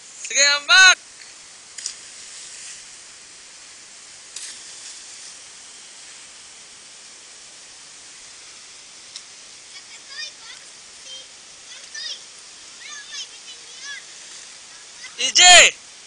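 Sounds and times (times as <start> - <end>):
river water rushing over cascade: 0.0 - 16.0
water splashes: 1.1 - 15.2.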